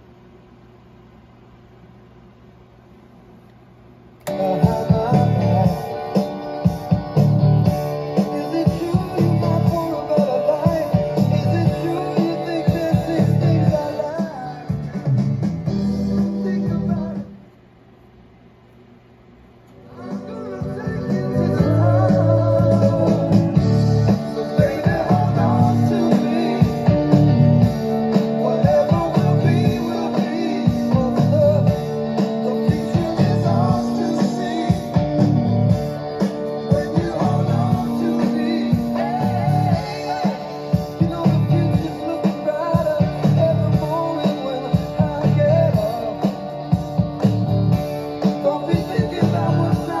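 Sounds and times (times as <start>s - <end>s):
rock music over loudspeakers: 4.3s - 17.4s, 19.9s - 50.0s.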